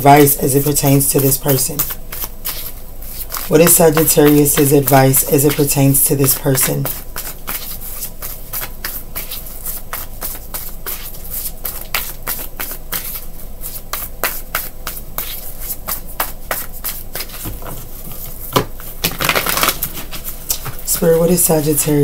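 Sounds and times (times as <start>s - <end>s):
cards being shuffled: 1.5s - 21.6s.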